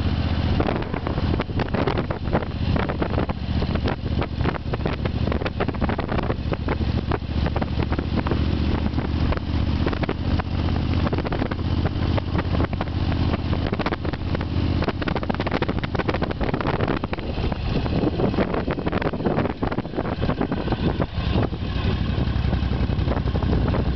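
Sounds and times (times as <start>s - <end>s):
road noise: 0.0s - 23.9s
vehicle engine running: 0.0s - 23.9s
wind buffeting microphone: 0.0s - 23.9s.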